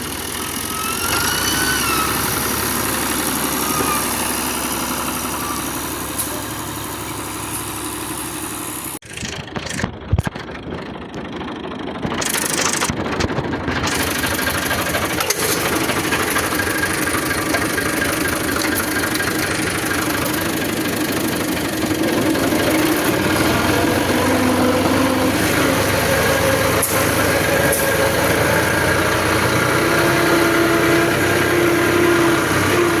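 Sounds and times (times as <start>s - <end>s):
tractor engine running hard: 0.0s - 33.0s.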